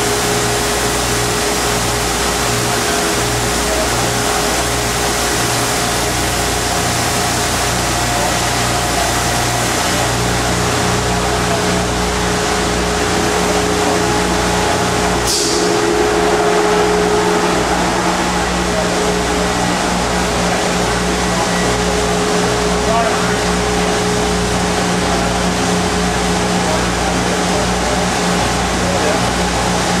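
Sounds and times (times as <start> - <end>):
loud machinery humming: 0.0 - 30.0.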